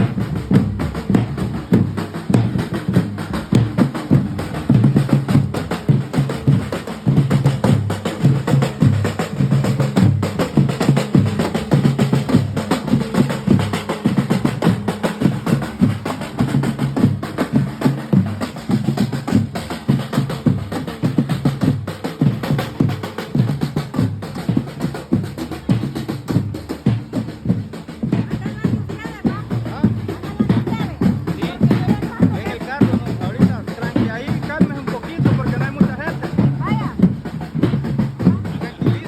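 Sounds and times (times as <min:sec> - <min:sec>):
instrumental music with drum beat: 0:00.0 - 0:39.0.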